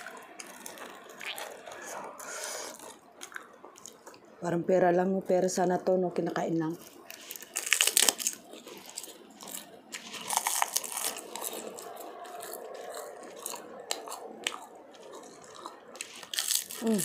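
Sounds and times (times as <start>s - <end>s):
chewing food: 0.0s - 4.3s, 6.8s - 17.0s.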